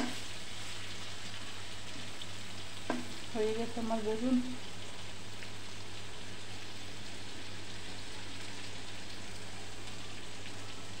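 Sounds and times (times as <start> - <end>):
slices sizzling in oil: 0.0 - 11.0.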